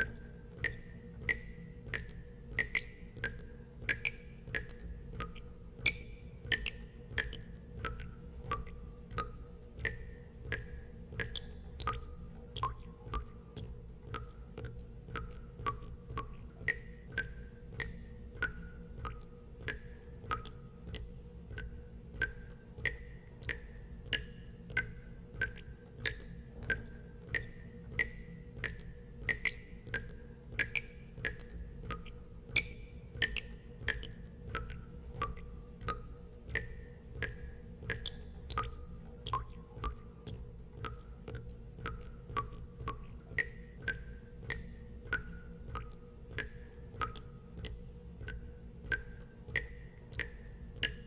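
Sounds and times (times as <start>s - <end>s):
steady low hum: 0.0s - 51.0s
water drops plinking into water: 0.0s - 51.0s.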